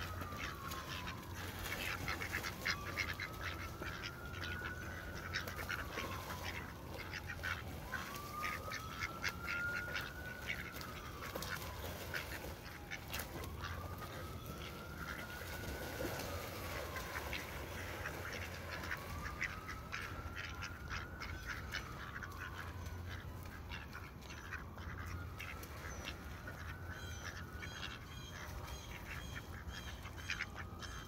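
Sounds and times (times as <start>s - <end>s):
ducks nibbling in grass: 0.0s - 31.0s
faint whine: 0.0s - 31.0s
ducks quacking: 0.1s - 15.6s, 16.2s - 31.0s.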